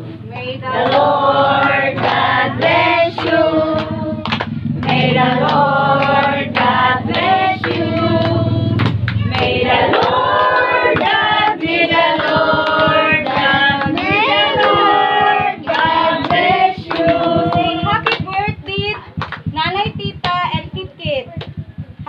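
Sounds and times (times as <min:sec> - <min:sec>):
group singing: 0:00.0 - 0:19.6
hands clapping: 0:00.8 - 0:22.0.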